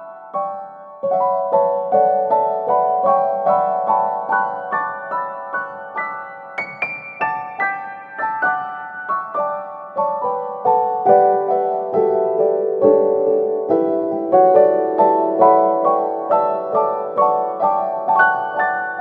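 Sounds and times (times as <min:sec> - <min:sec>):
piano single notes: 0:00.0 - 0:19.0.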